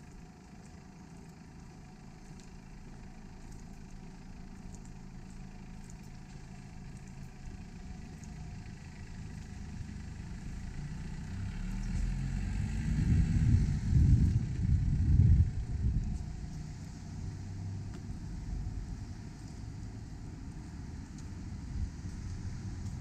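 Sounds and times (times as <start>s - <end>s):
motor vehicle running: 0.0s - 23.0s.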